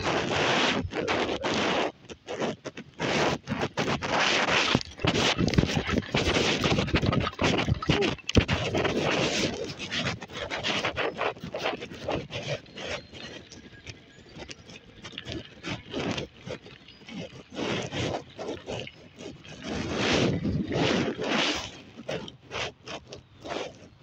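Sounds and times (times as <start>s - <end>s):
wind buffeting microphone: 3.0s - 22.3s.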